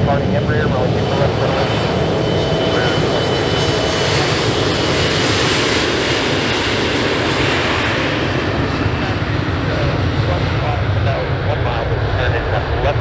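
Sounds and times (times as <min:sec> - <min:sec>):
jet engines at takeoff: 0:00.0 - 0:13.0.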